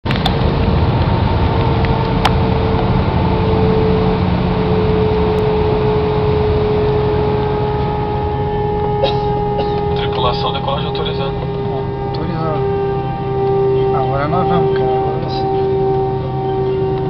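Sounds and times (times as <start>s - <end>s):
jet engines rushing: 0.1s - 17.0s
steady hum tone: 0.1s - 17.0s.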